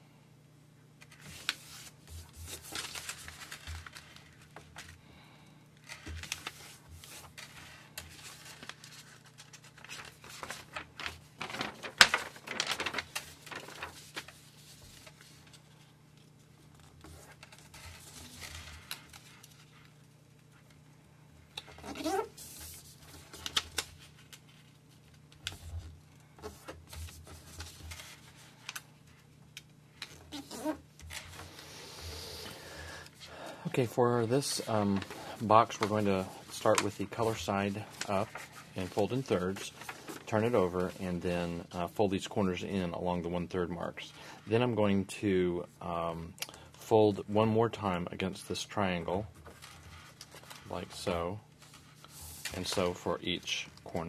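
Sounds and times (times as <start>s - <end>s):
paper rustling being folded: 1.0s - 5.2s, 5.8s - 20.9s, 21.5s - 31.6s, 33.0s - 43.9s, 47.7s - 54.0s.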